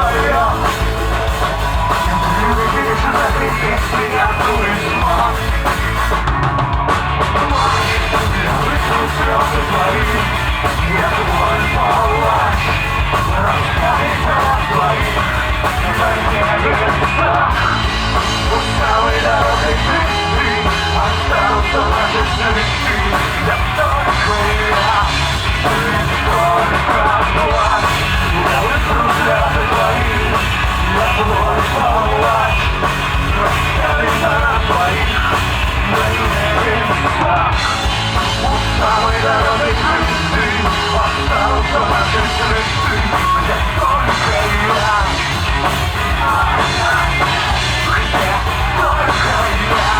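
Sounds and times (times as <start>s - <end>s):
person singing: 0.0s - 5.9s, 7.4s - 49.9s
alternative rock band playing live: 0.0s - 49.9s.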